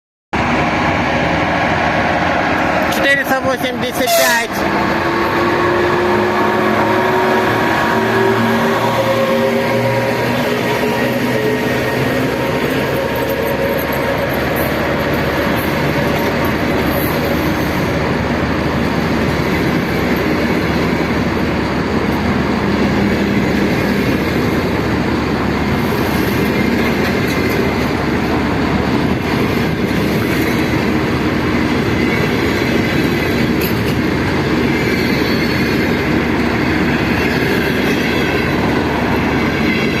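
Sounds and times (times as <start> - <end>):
train wheels rolling on rails: 0.4 - 40.0.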